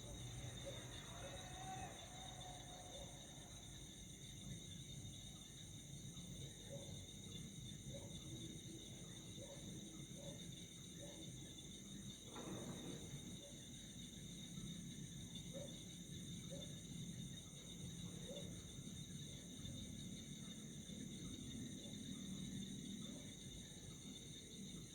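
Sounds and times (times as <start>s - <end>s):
crickets trilling: 0.0s - 24.9s.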